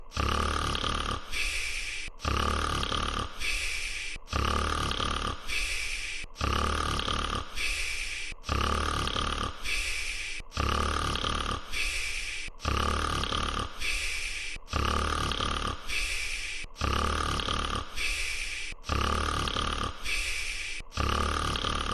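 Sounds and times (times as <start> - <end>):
cartoon snoring: 0.0 - 21.9.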